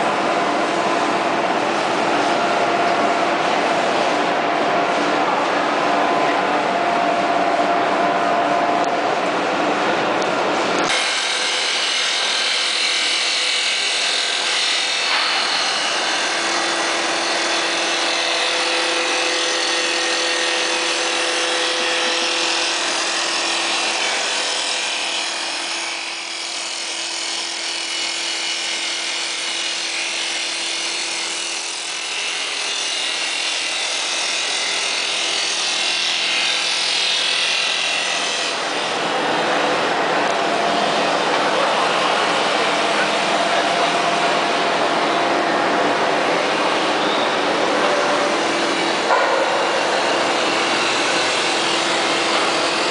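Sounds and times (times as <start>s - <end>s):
lathe cutter machining wood: 0.1s - 52.9s.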